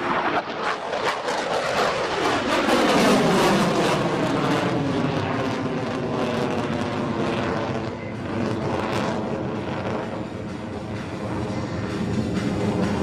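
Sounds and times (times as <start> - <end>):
fighter jet roar: 0.0 - 13.0.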